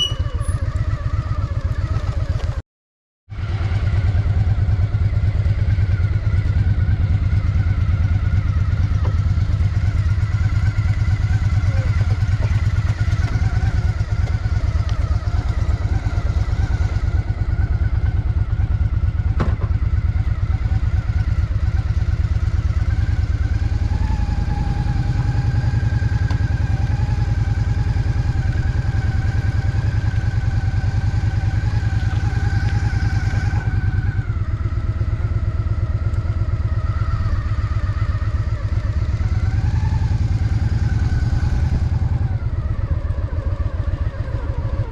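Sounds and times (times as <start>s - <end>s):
motorcycle engine running: 0.0s - 2.6s, 3.3s - 44.9s.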